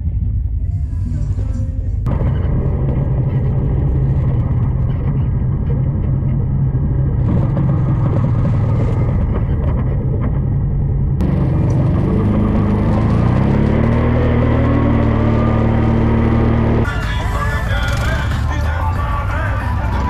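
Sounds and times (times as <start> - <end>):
atv engine running: 2.0 - 20.0.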